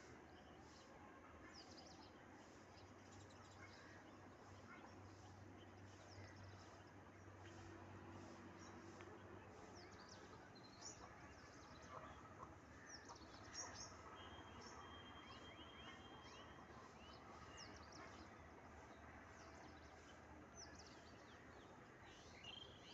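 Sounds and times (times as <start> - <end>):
small birds chirping: 0.0 - 22.9
steady outdoor hiss: 0.0 - 22.9.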